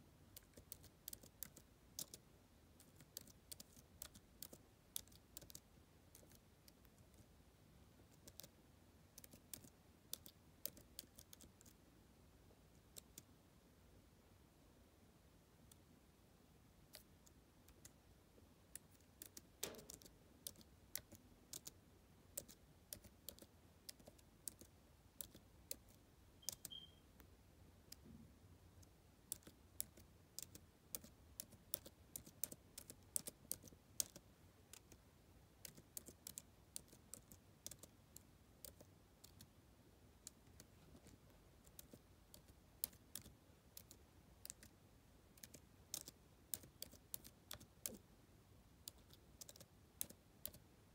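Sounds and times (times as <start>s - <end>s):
computer keyboard typing: 0.3s - 7.3s, 8.0s - 11.8s, 12.7s - 13.3s, 16.8s - 18.0s, 18.7s - 27.0s, 28.8s - 39.6s, 40.2s - 44.8s, 45.4s - 48.0s, 48.8s - 50.7s.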